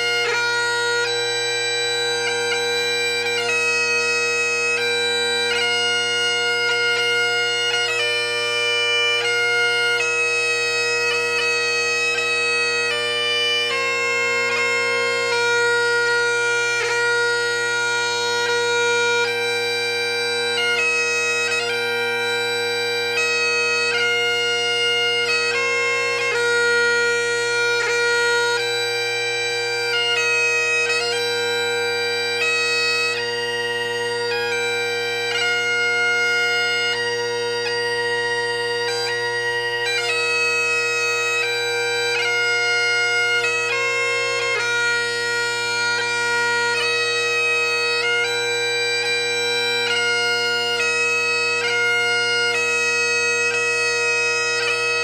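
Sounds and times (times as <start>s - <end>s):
bagpipe chanter melody: 0.0s - 55.0s
bagpipe drones: 0.0s - 55.0s.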